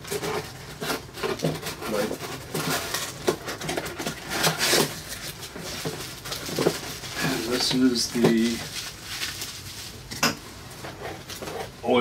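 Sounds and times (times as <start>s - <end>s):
cardboard flaps rustling: 0.0s - 10.0s.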